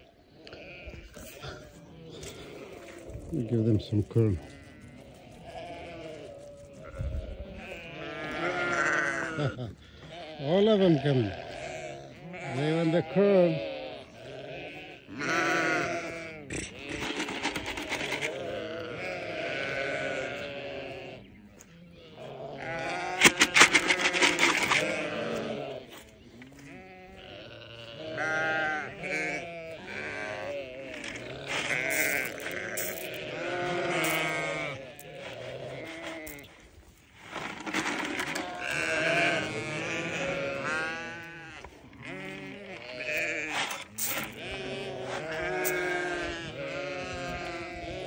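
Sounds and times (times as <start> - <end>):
sheep bleating: 0.0 - 48.0.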